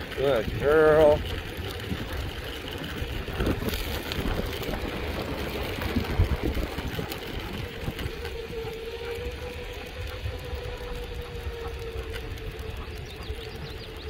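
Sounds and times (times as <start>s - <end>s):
tyres rolling over asphalt: 0.0s - 14.0s.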